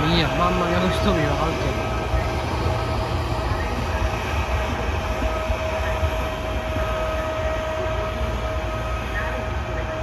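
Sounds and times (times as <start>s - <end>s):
thin constant whine: 0.0s - 10.0s
train rumbling on rails: 0.0s - 10.0s.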